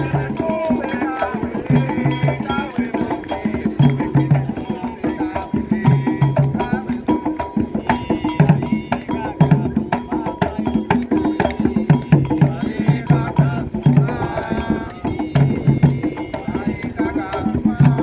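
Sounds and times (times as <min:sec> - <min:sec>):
hand drums in fast rhythm: 0:00.0 - 0:18.0
voices singing: 0:00.0 - 0:18.0.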